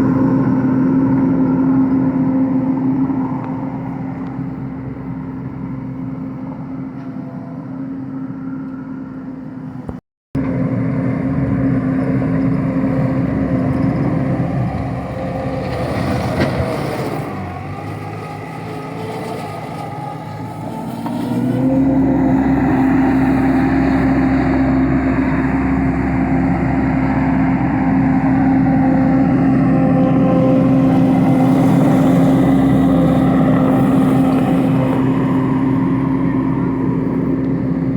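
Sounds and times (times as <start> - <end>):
skid steer engine running: 0.0 - 37.9.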